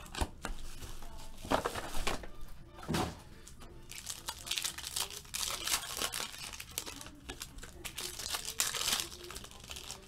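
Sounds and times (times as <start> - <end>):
foil pack crinkling: 0.0 - 2.3, 3.8 - 10.0.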